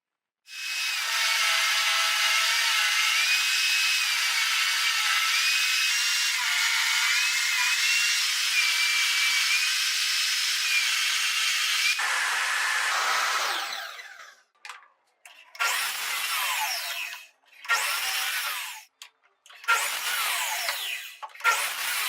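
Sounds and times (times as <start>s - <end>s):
power tool cutting wood: 0.5s - 14.5s, 15.5s - 18.9s, 19.5s - 22.0s.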